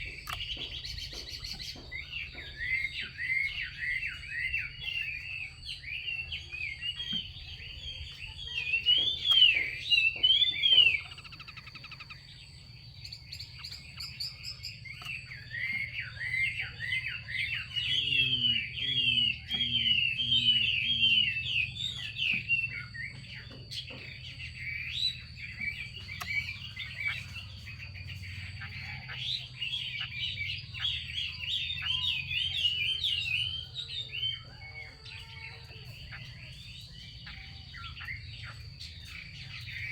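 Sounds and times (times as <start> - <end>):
bird chattering call: 0.0 - 39.9.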